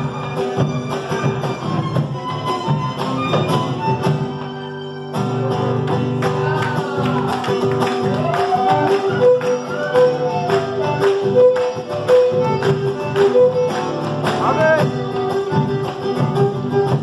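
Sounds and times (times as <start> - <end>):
violin melody: 0.0 - 7.0, 7.8 - 17.0
strummed acoustic guitar: 0.0 - 17.0.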